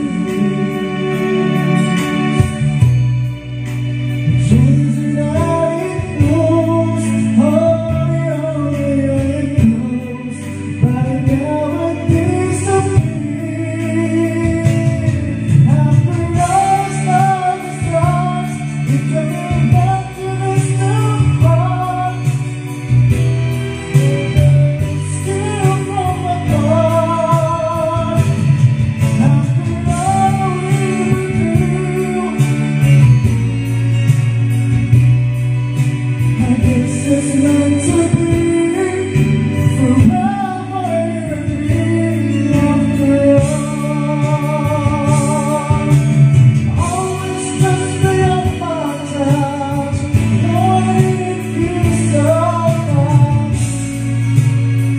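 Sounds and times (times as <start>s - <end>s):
person singing: 0.0s - 35.4s, 36.1s - 54.9s
slow backing track: 0.0s - 54.9s.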